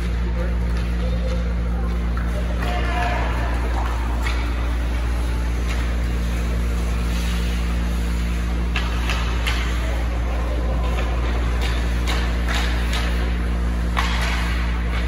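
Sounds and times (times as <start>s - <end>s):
low rink rumble: 0.0s - 15.0s
skates and sticks scraping ice: 0.0s - 15.0s.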